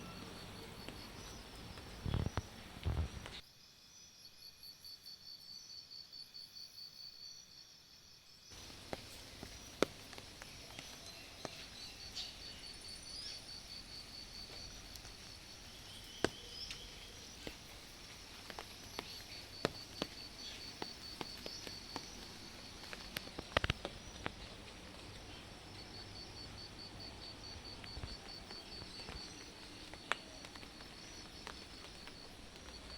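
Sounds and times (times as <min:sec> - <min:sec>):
faint crickets chirping: 0:00.0 - 0:32.9.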